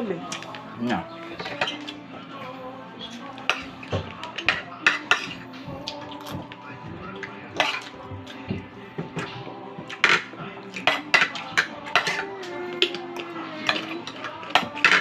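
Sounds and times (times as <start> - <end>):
background music: 0.0 - 15.0
cutlery clinking on plates: 1.4 - 2.0, 3.1 - 15.0.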